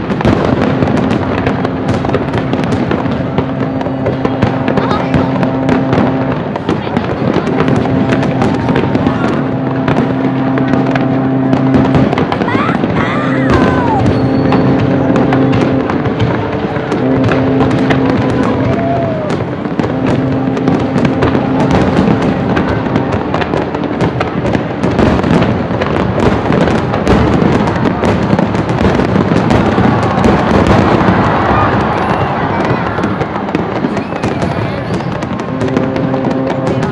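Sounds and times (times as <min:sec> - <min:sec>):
fireworks banging and crackling: 0:00.0 - 0:36.9.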